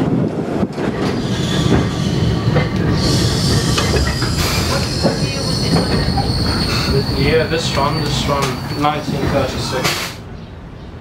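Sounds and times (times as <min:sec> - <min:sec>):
tram rumbling: 0:00.0 - 0:11.0
wheels clicking over rail joints: 0:00.6 - 0:10.2
high wheel squeal: 0:00.9 - 0:10.2.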